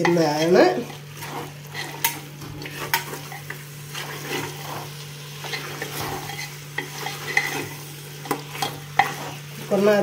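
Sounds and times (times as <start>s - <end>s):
light sizzle of frying: 0.0s - 10.0s
spoon scraping in a pot: 0.0s - 10.0s.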